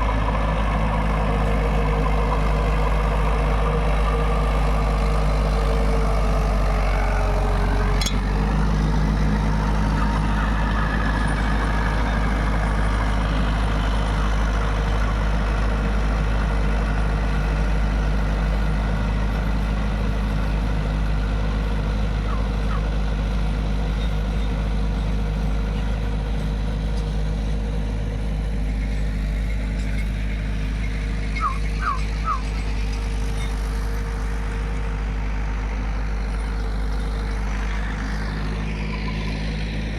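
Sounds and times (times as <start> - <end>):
rotavator tilling soil: 0.0 - 39.9
tractor diesel engine running: 0.0 - 39.9.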